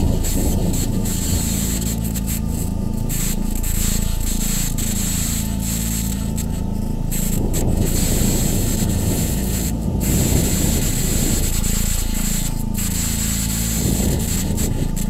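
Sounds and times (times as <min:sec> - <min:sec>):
electronic ambient drone: 0:00.0 - 0:15.0.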